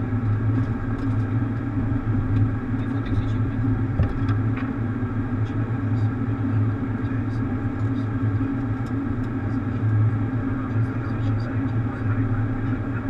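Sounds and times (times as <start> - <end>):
cockpit machinery and ventilation hum: 0.0 - 13.0.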